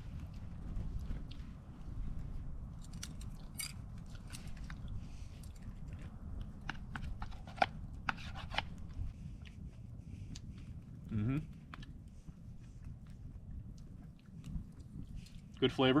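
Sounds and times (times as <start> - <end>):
chewing: 0.0 - 7.9, 8.5 - 15.7.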